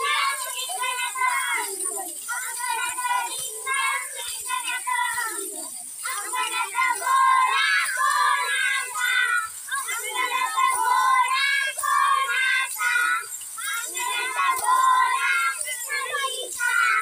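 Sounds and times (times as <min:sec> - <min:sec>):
children singing in unison: 0:00.0 - 0:17.0.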